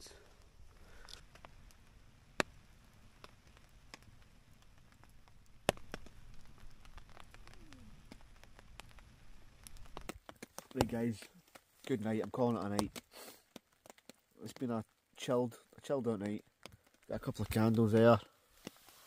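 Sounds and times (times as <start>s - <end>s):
campfire crackling and popping: 0.0s - 19.0s
rain on a tarp: 0.0s - 19.0s.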